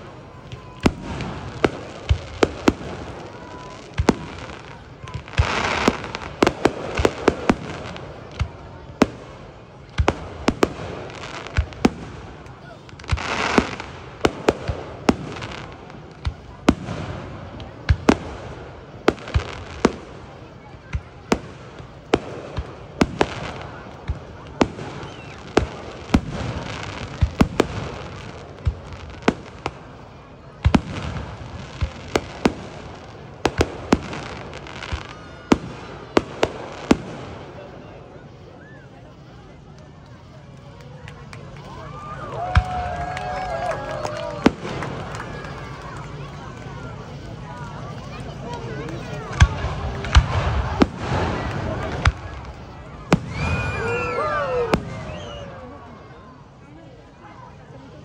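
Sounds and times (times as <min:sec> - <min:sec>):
fireworks bursting with bangs: 0:00.0 - 0:56.3.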